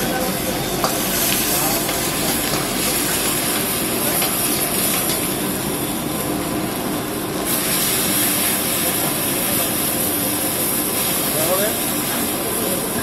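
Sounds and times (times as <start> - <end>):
gas burner roaring: 0.0 - 13.0
sauce sizzling in wok: 0.0 - 13.0.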